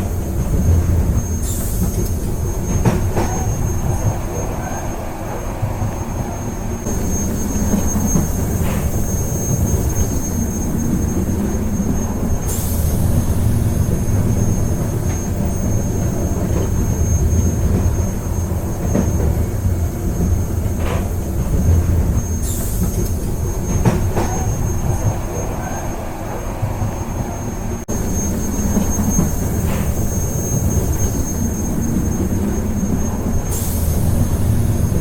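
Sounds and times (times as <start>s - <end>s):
train rumbling on rails: 0.0s - 35.0s.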